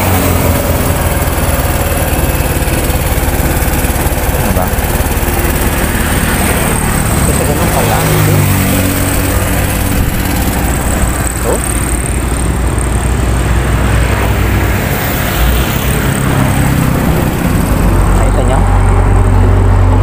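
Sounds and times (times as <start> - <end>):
motorcycle engine running: 0.0 - 20.0
road noise: 0.0 - 20.0
rushing wind: 0.0 - 20.0.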